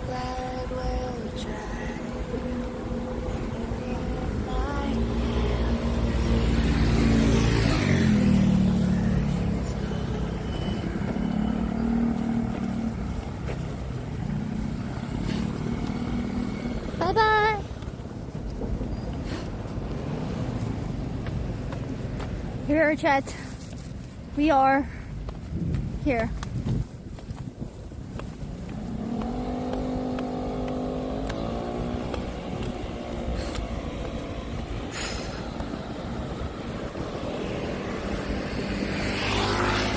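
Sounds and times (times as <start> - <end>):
low traffic rumble: 0.0 - 39.9
passing vehicle engines: 0.0 - 39.9
steady road noise: 0.0 - 39.9.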